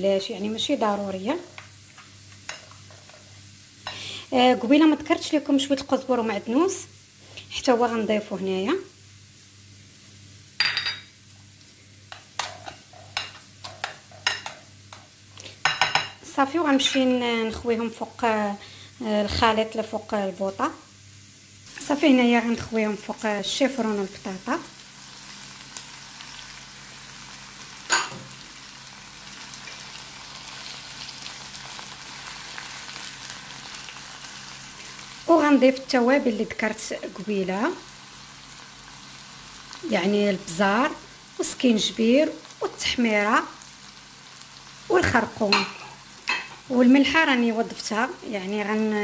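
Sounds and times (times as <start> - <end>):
vegetables sizzling in a frying pan: 0.0 - 49.0.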